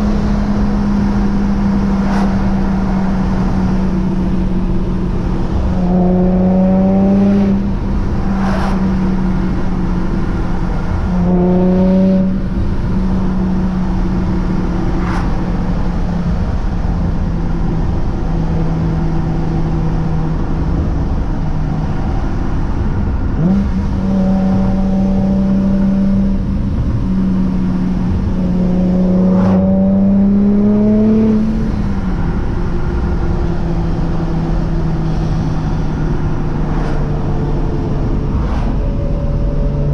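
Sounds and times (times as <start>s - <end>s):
car engine cruising and revving: 0.0s - 39.9s.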